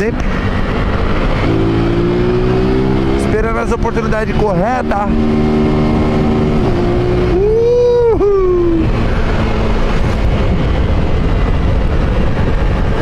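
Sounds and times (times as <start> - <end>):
motorcycle engine revving: 0.0 - 13.0
wind rumble: 0.0 - 13.0.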